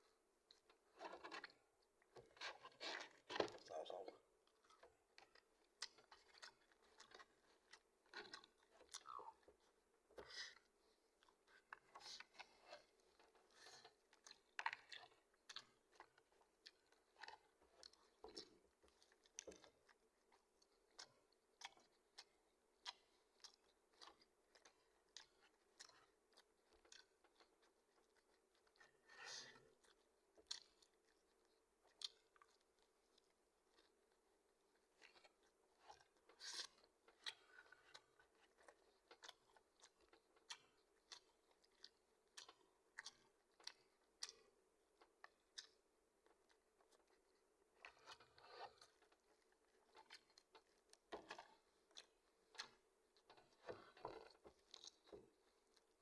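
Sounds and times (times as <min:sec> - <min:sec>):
chewing crispy fried chicken: 0:00.0 - 0:56.0.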